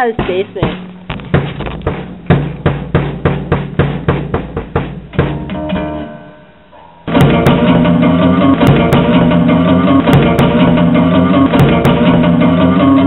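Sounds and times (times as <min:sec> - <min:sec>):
drum kit hits: 0:00.0 - 0:13.0.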